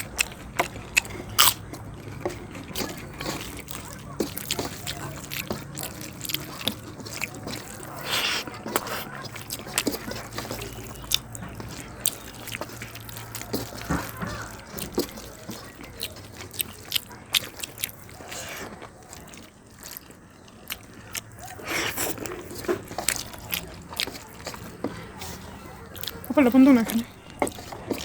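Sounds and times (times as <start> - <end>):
chewing with wet mouth clicks: 0.0 - 28.0.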